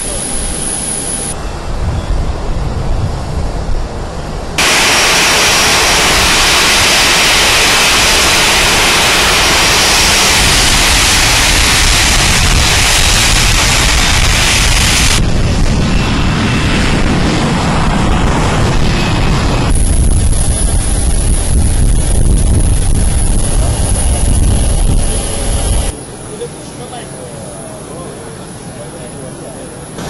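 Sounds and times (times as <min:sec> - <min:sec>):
jet engines rushing hiss: 0:00.0 - 0:30.0
low rumble: 0:01.1 - 0:26.0.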